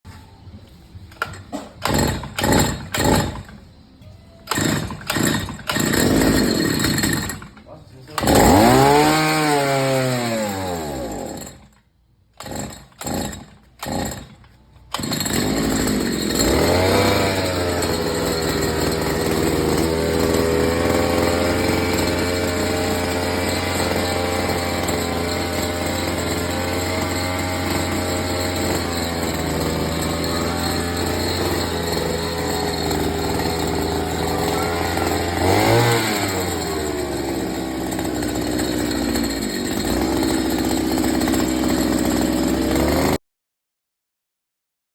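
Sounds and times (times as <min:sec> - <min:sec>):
small engine sputtering and running: 0:01.1 - 0:03.6, 0:04.4 - 0:11.8, 0:12.4 - 0:43.2.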